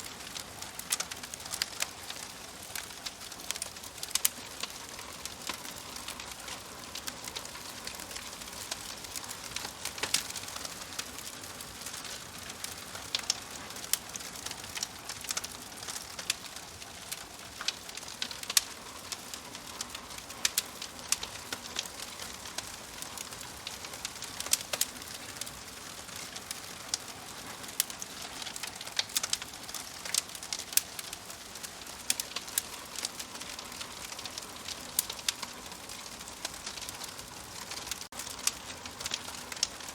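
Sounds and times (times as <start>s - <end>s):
fire hissing: 0.0s - 39.9s
fire popping and snapping: 0.0s - 39.9s.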